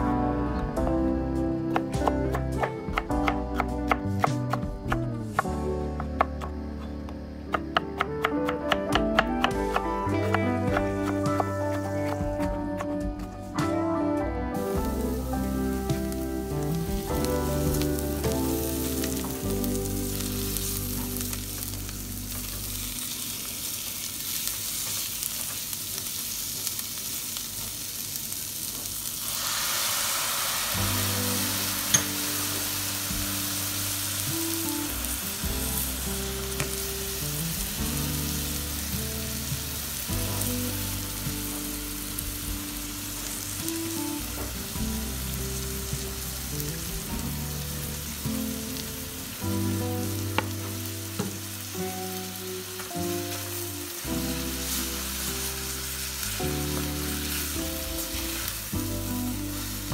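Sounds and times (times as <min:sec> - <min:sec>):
background music with held notes: 0:00.0 - 0:23.7, 0:30.4 - 0:59.9
vegetables sizzling in a pot: 0:01.2 - 0:12.8, 0:14.6 - 0:59.9.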